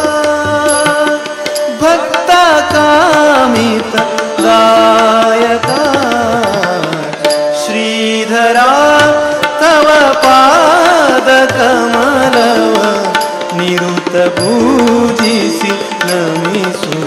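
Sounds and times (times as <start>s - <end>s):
harmonium: 0.0s - 17.0s
man singing: 0.0s - 17.0s
tabla strokes: 0.0s - 17.0s.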